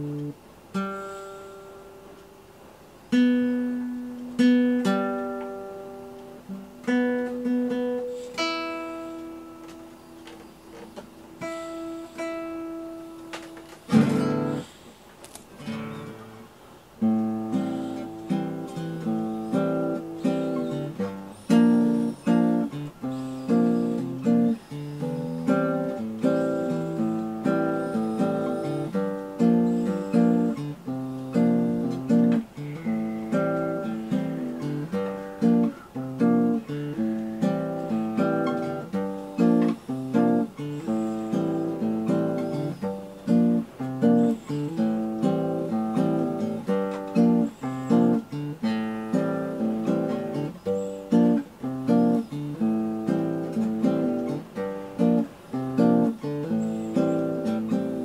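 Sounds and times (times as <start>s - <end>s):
acoustic guitar plucking and strumming: 0.0s - 2.4s, 3.1s - 58.0s.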